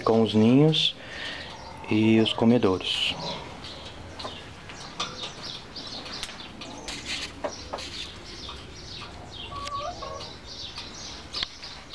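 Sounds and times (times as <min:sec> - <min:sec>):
hens clucking and calling: 0:00.4 - 0:11.9.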